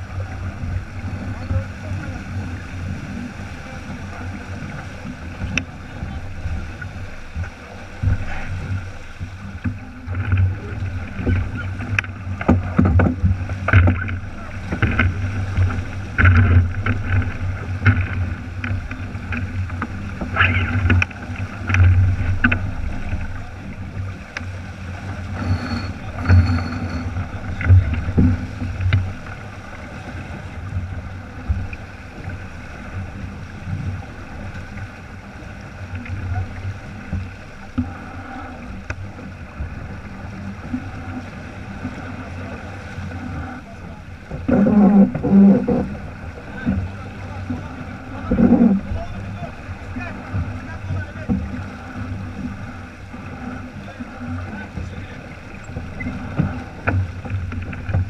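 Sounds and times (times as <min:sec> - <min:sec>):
water rushing along a hull: 0:00.0 - 0:58.0
wind buffeting the microphone: 0:00.0 - 0:58.0.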